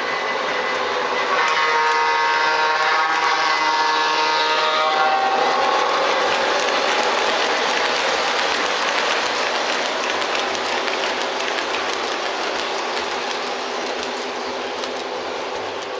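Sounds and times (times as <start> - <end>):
model train rolling on track: 0.0 - 15.9.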